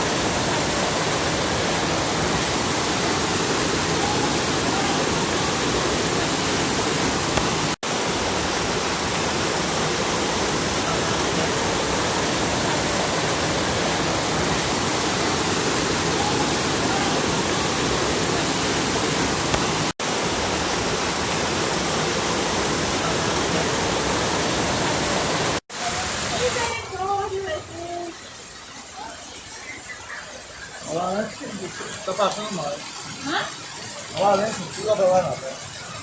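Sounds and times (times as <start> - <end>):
heavy rain pouring: 0.0 - 29.7
running water: 0.0 - 36.0.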